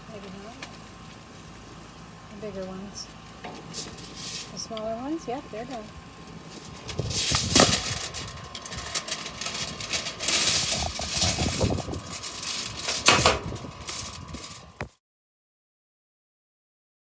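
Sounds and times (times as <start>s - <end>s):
grill hissing and crackling: 0.0s - 15.0s.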